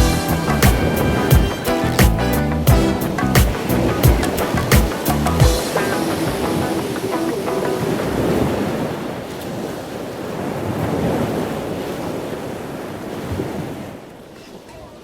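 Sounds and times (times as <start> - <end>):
waves washing on shore: 0.0 - 15.0.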